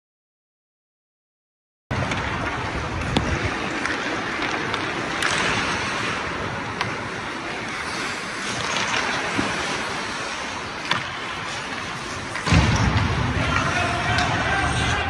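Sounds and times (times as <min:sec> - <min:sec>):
skate blades scraping ice: 0:02.0 - 0:15.0.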